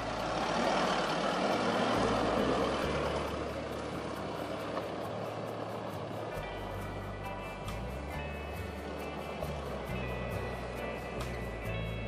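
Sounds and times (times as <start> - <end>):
diesel engine crawling: 0.0 - 12.0
background music with beat: 1.8 - 12.0.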